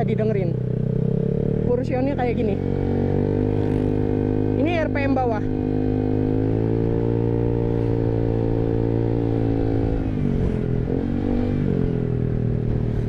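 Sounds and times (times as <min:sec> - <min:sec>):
scooter engine at low revs: 0:00.0 - 0:13.0.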